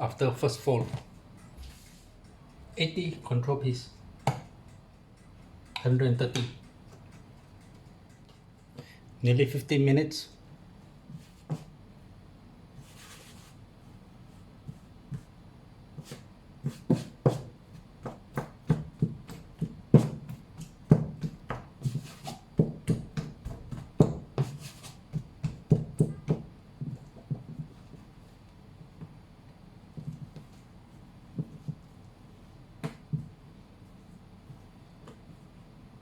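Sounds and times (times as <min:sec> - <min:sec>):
hands kneading bread dough: 0:00.0 - 0:09.0, 0:12.7 - 0:36.0.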